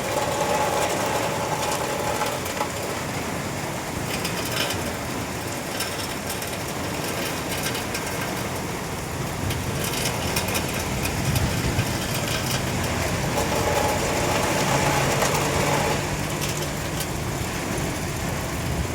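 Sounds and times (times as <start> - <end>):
rain falling steadily: 0.0 - 18.9
raindrops ticking on hard surfaces: 0.0 - 18.9
vehicle engine hum: 0.0 - 18.9.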